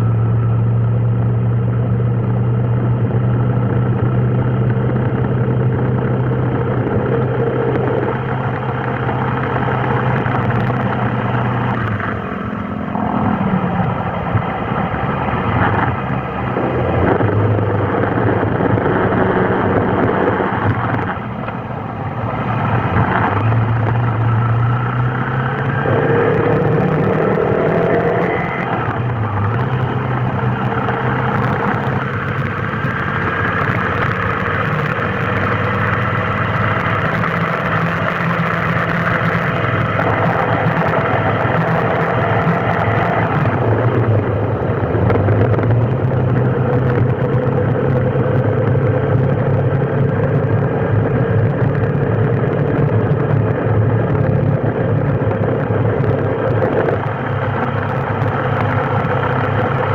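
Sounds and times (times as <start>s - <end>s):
vehicle engine idling and revving: 0.0s - 59.9s.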